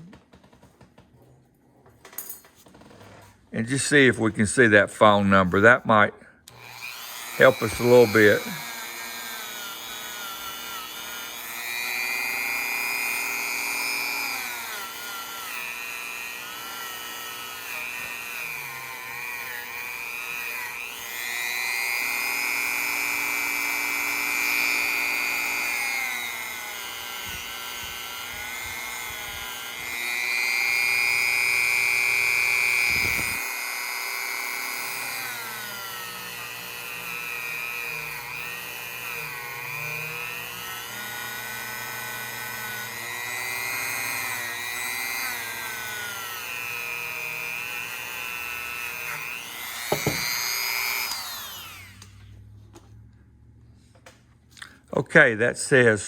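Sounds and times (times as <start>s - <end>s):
rotary tool whining: 6.4s - 52.6s.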